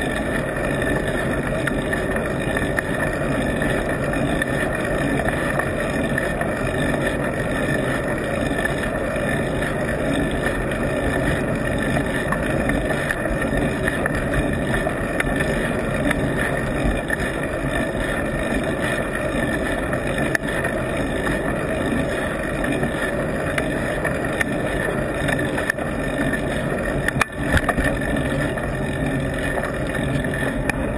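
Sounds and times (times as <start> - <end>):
road rumble: 0.0 - 30.9.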